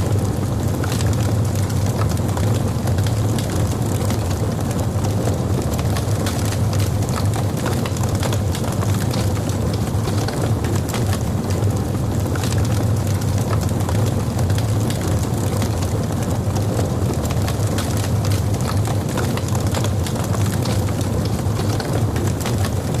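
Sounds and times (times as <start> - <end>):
fire crackling and popping: 0.0 - 23.0
fire rumbling: 0.0 - 23.0.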